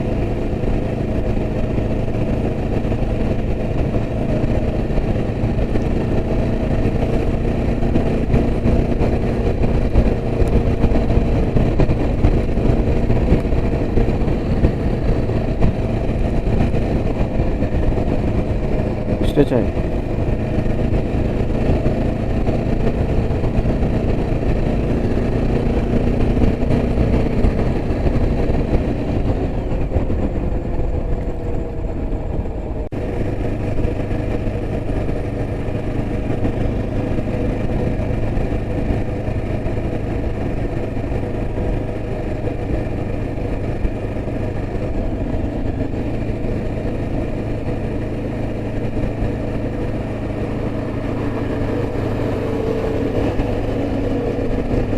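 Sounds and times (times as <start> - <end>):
motorcycle engine running: 0.0 - 54.9
road noise rumble: 0.0 - 54.9.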